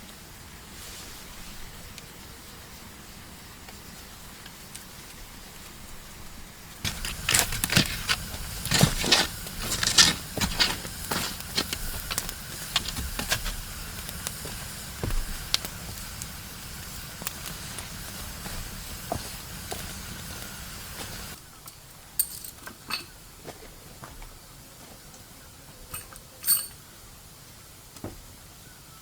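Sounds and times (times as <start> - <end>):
wood fire crackling: 0.0 - 23.5
steady hiss: 0.0 - 29.0.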